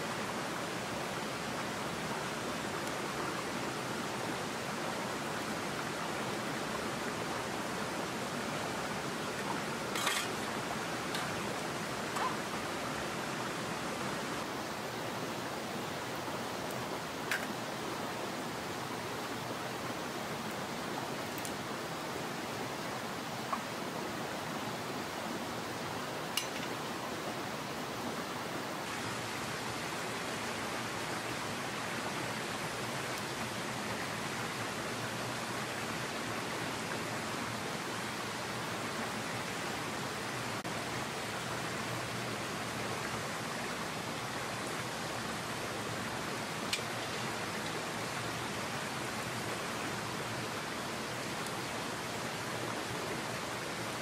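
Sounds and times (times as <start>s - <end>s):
mountain stream rushing: 0.0s - 54.0s.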